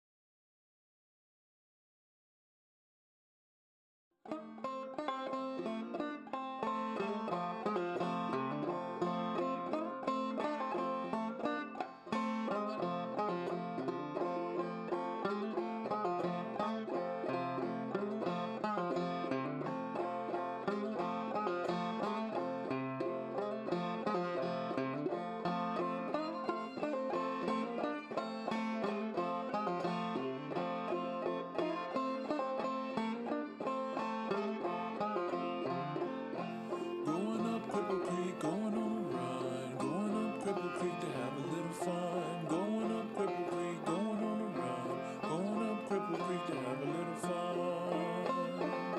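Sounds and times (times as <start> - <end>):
banjo music: 4.3 - 48.9.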